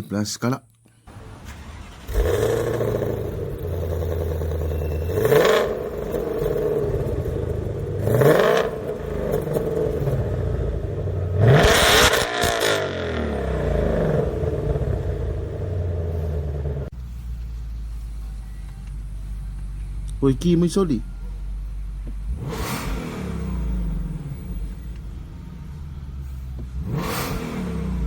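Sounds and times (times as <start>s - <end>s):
pickup engine idling and revving: 1.1s - 28.0s.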